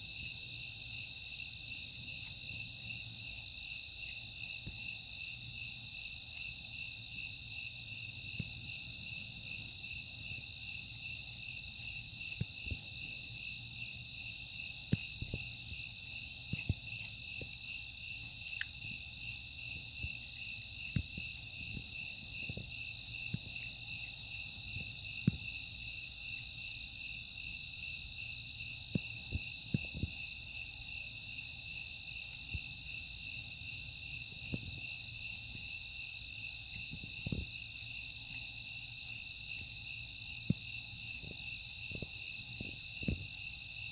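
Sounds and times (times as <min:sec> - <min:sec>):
night insects trilling: 0:00.0 - 0:43.9.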